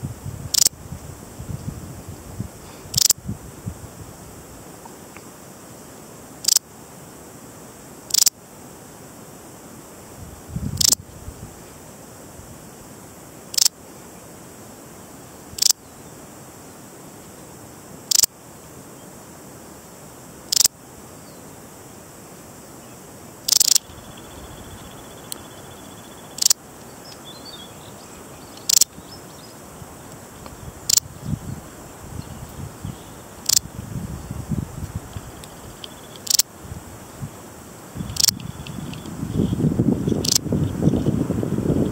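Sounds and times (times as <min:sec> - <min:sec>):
bush-cricket chirping: 0:00.0 - 0:41.9.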